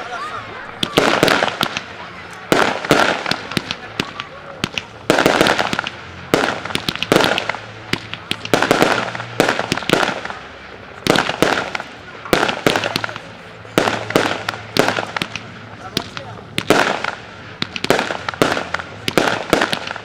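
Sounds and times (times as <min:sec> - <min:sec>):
firework bangs echoing: 0:00.0 - 0:20.0.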